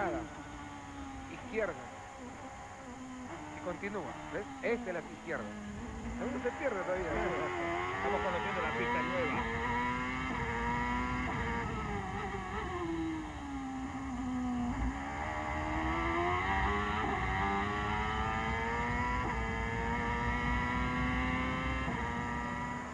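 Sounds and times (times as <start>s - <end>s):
racing car engine: 0.0s - 22.9s.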